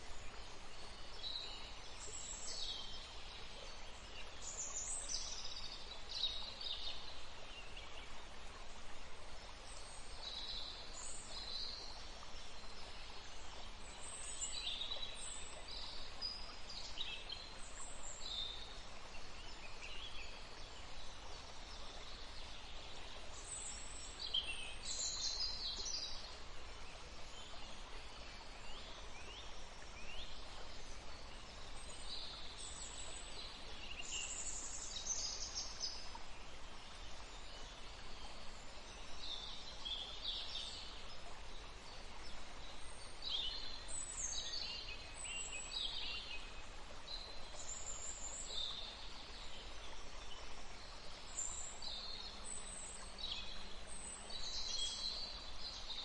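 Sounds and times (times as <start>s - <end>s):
running water: 0.0s - 56.0s
songbirds chirping: 0.0s - 56.0s.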